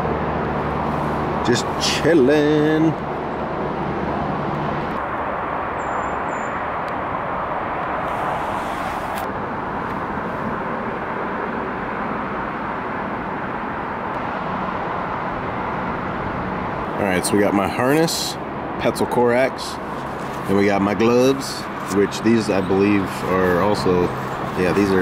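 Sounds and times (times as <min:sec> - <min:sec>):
distant road traffic: 0:00.0 - 0:25.0.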